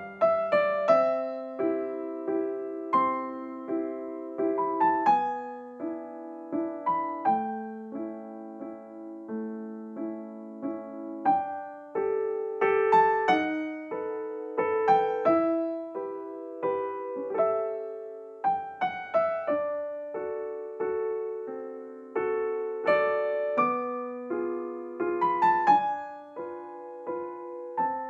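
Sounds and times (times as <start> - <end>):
gentle solo piano melody: 0.0 - 28.0.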